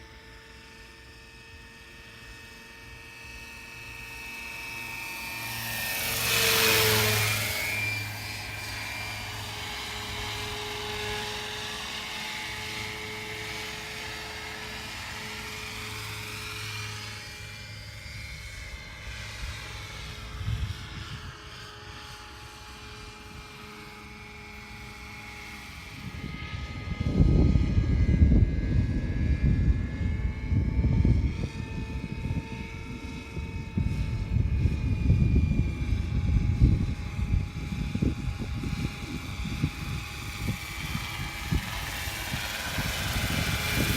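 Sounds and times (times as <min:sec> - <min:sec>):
model helicopter rotor whine: 0:00.0 - 0:43.9.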